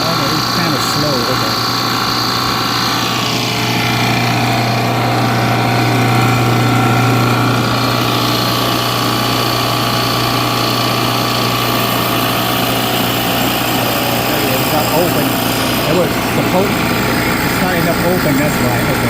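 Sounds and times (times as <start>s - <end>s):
recovery machine motor hum: 0.0s - 19.0s.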